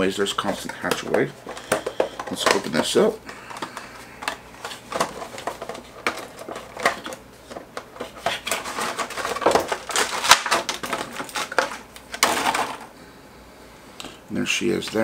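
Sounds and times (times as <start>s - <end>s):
box opening clicks and rustling: 0.4s - 12.8s.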